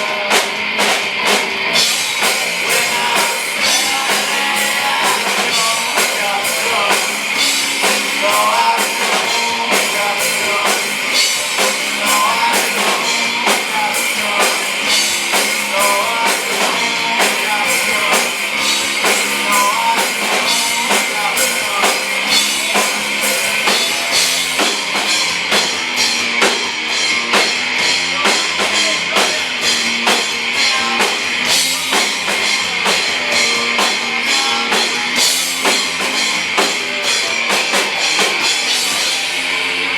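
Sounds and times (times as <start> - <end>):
person singing: 0.0 - 1.0, 1.8 - 25.1, 28.0 - 39.9
drum kit beat: 0.0 - 39.9
electric guitar: 0.0 - 39.9
rock band playing: 0.0 - 39.9.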